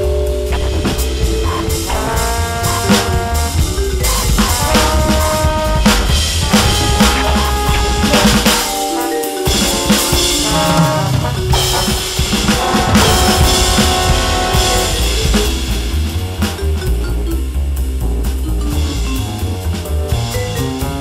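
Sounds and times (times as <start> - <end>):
bass line: 0.0 - 8.9, 9.5 - 21.0
sustained chords: 0.0 - 17.2
electronic drums swing groove: 0.5 - 21.0.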